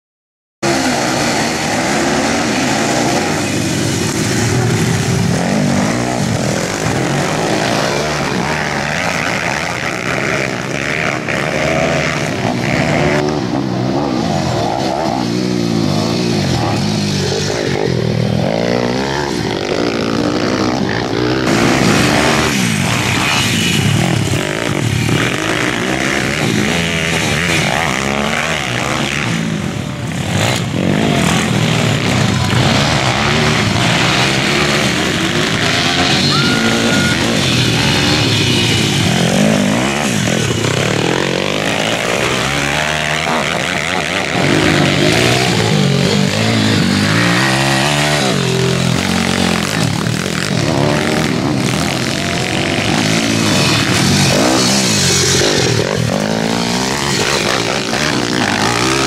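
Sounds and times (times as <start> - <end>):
dirt-bike engines revving: 0.6 - 59.0.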